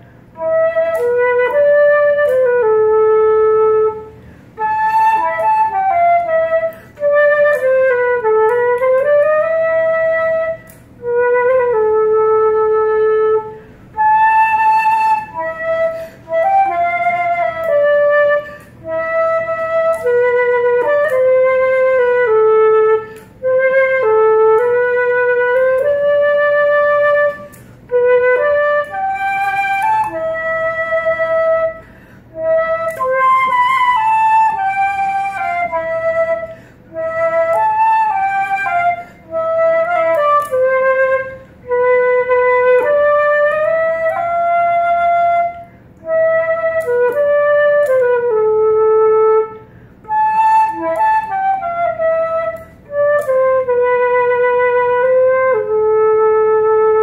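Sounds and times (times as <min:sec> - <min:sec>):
solo flute melody: 0:00.0 - 0:57.0.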